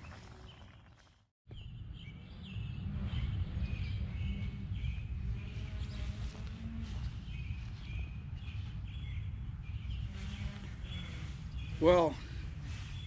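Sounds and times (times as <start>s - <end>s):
songbirds chirping: 0.1s - 13.0s
steady low rumble: 1.5s - 13.0s.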